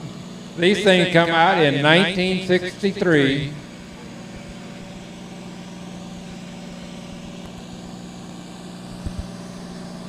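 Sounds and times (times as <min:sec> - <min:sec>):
tractor engine running under load: 0:00.0 - 0:10.0.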